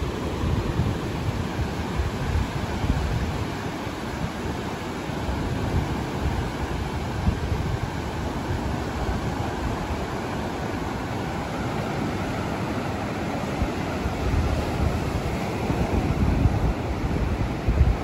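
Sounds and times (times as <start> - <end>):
surf breaking on sandy beach: 0.0 - 18.0
wind buffeting microphone: 0.0 - 18.0.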